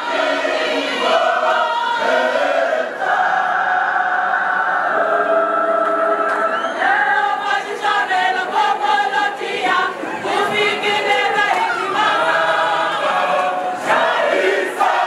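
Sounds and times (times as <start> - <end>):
mixed choir singing: 0.0 - 15.0.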